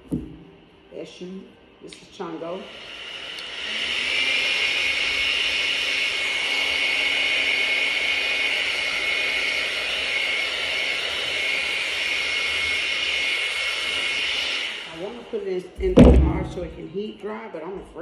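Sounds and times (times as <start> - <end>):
hair dryer whirring: 2.2 - 16.8.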